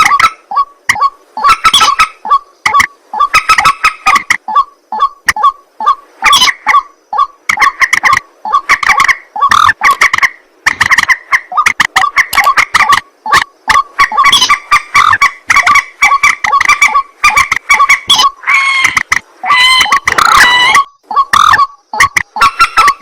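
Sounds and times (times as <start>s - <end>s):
waterhen harsh croaking calls: 0.0s - 23.0s.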